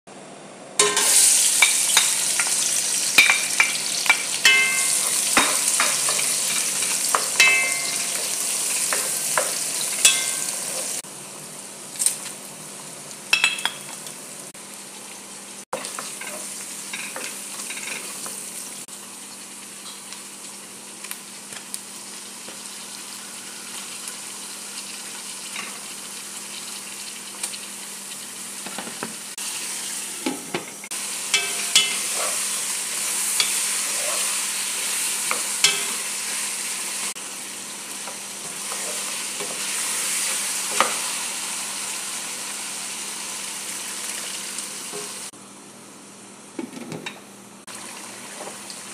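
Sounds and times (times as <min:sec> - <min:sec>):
onion sizzling in hot oil: 0:00.8 - 0:45.3, 0:47.7 - 0:48.9.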